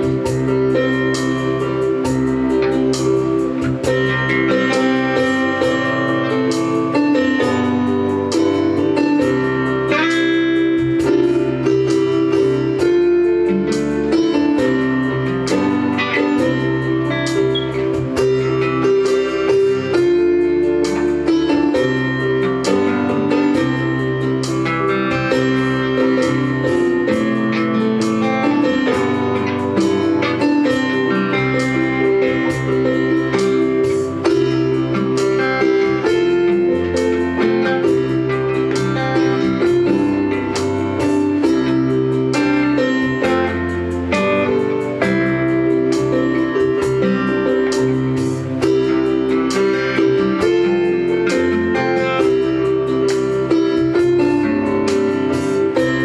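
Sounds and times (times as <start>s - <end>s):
acoustic guitar plucking: 0.0s - 56.0s
electronic keyboard chords: 0.0s - 56.0s.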